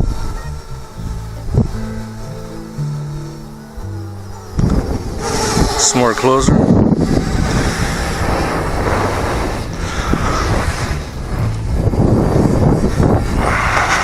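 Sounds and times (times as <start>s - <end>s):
drone propellers humming: 0.0s - 14.0s
wind rumble on microphone: 0.0s - 14.0s.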